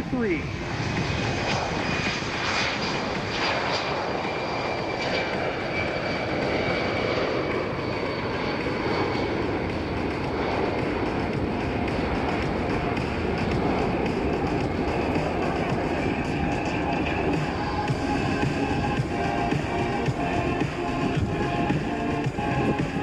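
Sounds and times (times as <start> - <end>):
jet engines roaring at takeoff: 0.0 - 23.0.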